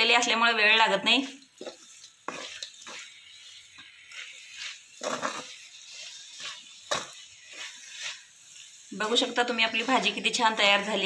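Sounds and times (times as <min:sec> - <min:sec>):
wooden spatula scraping metal pan: 0:00.0 - 0:11.0.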